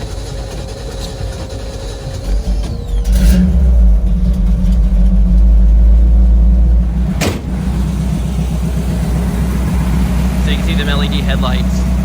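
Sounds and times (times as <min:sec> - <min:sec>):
car engine revving and rumbling: 0:00.0 - 0:12.0.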